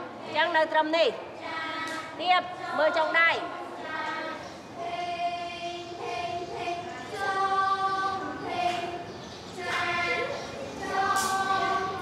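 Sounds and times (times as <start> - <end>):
young voices singing: 0.0 - 12.0.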